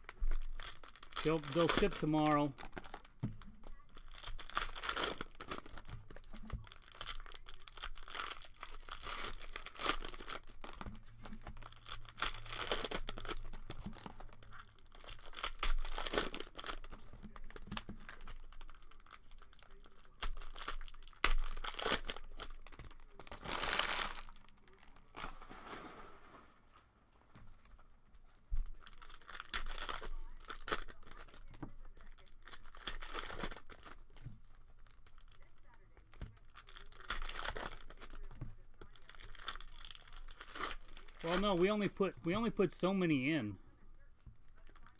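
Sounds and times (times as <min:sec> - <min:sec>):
cellophane wrappers crinkling: 0:00.0 - 0:26.0, 0:28.6 - 0:43.6, 0:44.2 - 0:44.9.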